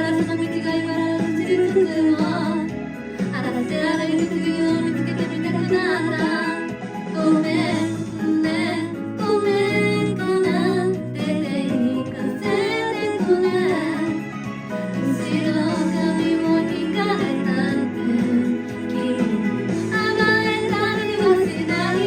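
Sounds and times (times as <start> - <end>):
karaoke backing track: 0.0 - 22.0
woman singing: 0.0 - 22.0.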